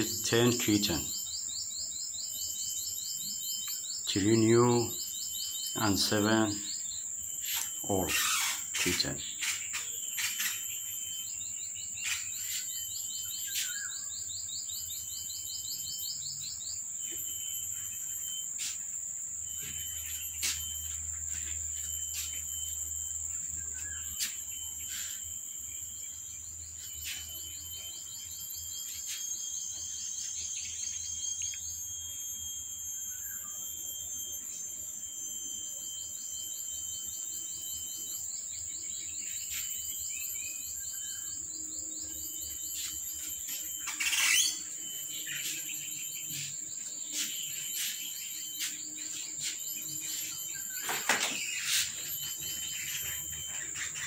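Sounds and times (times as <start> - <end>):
insect trilling: 0.0 - 54.0.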